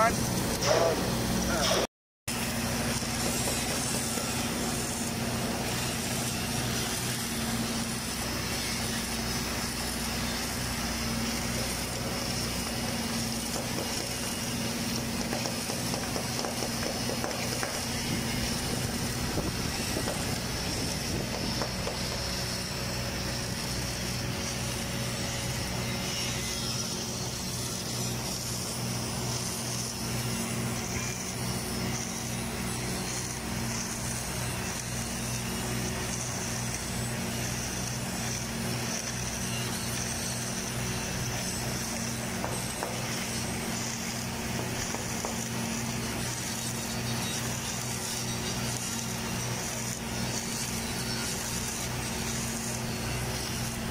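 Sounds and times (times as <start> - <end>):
welding machine humming and hissing: 0.0 - 53.9.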